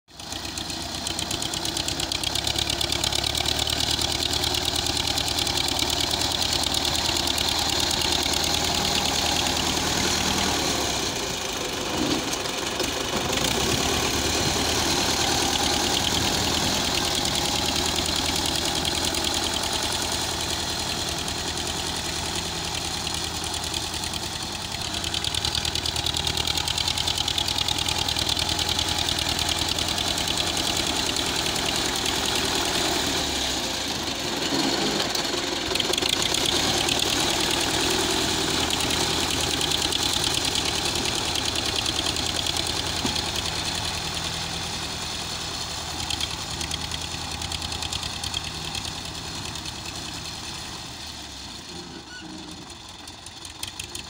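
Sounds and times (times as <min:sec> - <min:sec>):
tractor diesel engine under load: 0:00.1 - 0:54.0.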